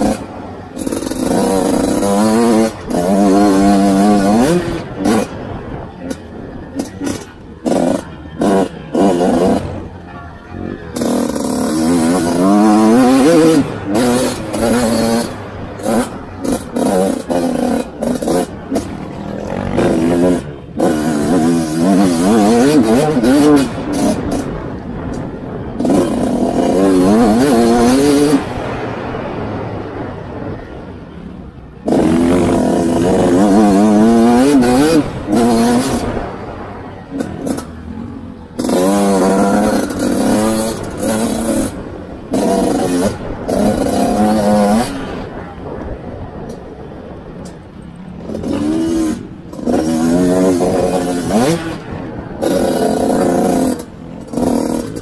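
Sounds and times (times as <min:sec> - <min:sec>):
dirt bike engine revving: 0:00.0 - 0:55.0
wind buffeting microphone: 0:00.0 - 0:55.0.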